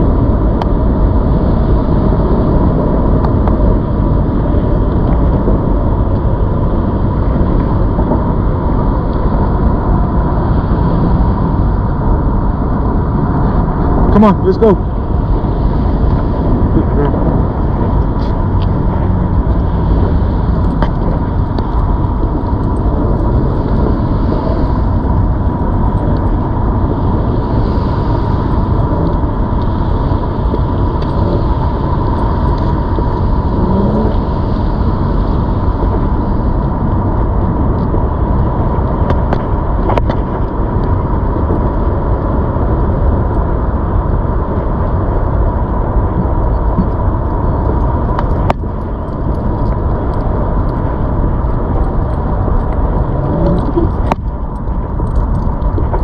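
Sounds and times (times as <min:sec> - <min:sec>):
electric bike whine: 0:00.0 - 0:56.0
road noise: 0:00.0 - 0:56.0
wind on microphone: 0:00.0 - 0:56.0.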